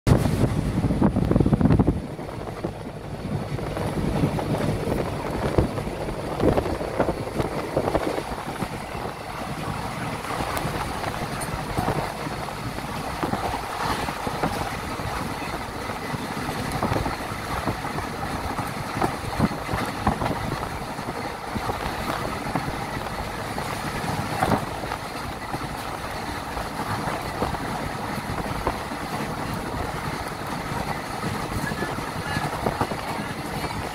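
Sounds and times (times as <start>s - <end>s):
air rushing at window: 0.1s - 33.9s
train wheels rumbling on track: 0.1s - 33.9s.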